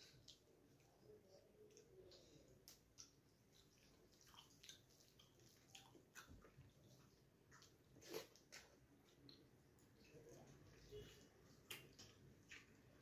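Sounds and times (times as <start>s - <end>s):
fingers squishing wet food: 0.0s - 13.0s.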